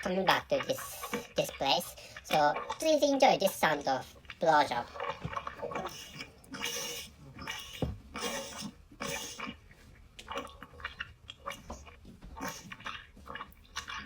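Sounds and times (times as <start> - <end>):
wet sucking and slurping: 0.0 - 14.0.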